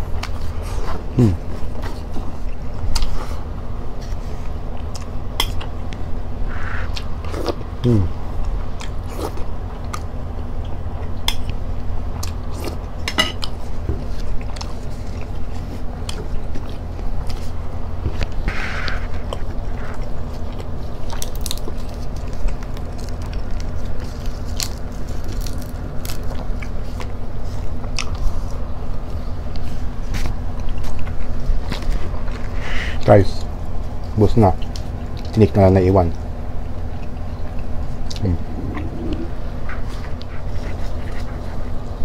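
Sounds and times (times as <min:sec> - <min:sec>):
low hum: 0:00.0 - 0:42.0
chewing food: 0:06.7 - 0:32.6, 0:33.3 - 0:42.0.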